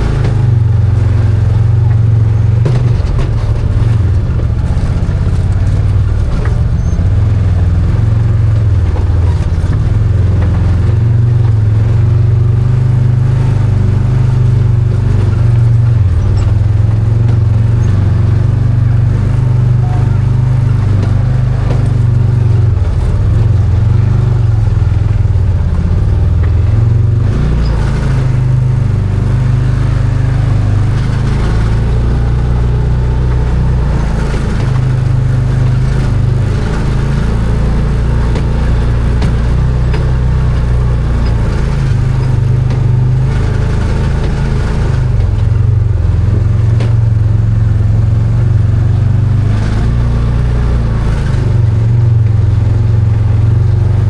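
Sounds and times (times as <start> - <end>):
engine running with low drone: 0.0 - 54.0.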